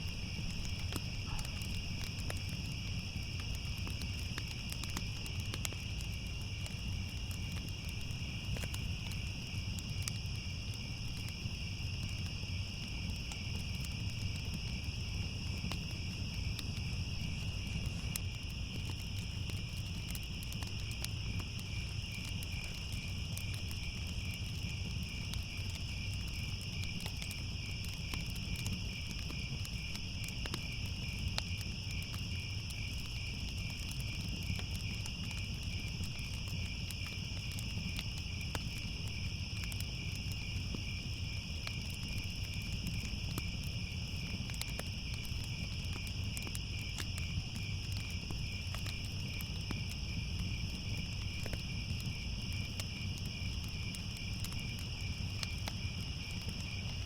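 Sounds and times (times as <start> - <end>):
crickets chirping: 0.0 - 57.0
wood fire crackling: 0.0 - 57.0.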